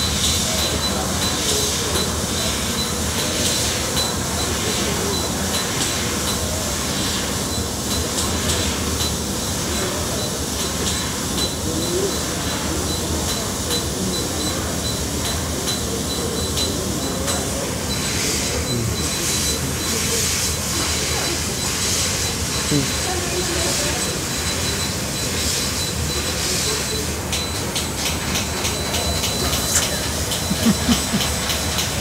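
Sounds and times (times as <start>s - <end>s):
laser cutter hiss and rumble: 0.0s - 32.0s.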